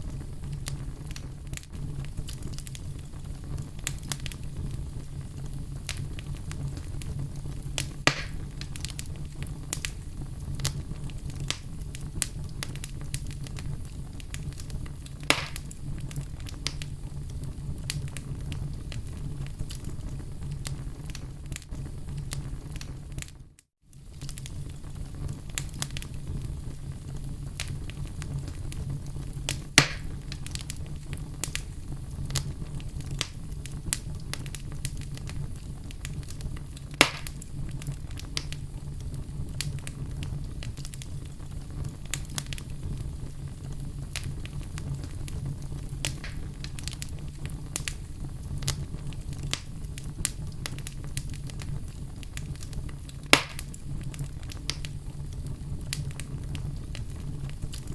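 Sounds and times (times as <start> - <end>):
fire burning in a fireplace: 0.0 - 57.9
fire crackling: 0.0 - 57.9
loud fire pops: 0.0 - 57.9.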